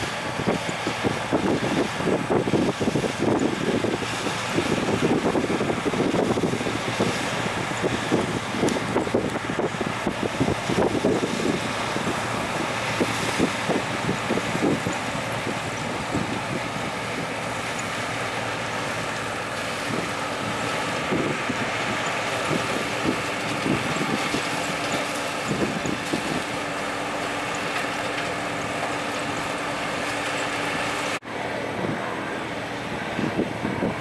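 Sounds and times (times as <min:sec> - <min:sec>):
corn harvester running: 0:00.0 - 0:34.0
tractor running: 0:00.0 - 0:34.0.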